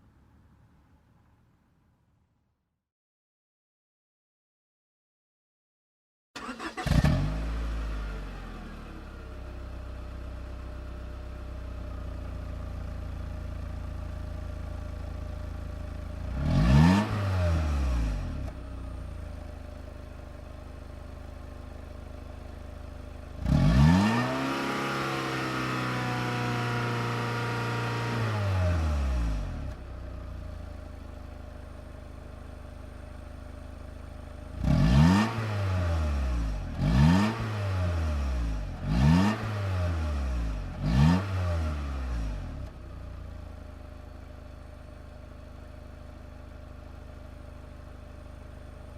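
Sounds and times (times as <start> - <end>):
car engine idling and revving: 6.4 - 48.9.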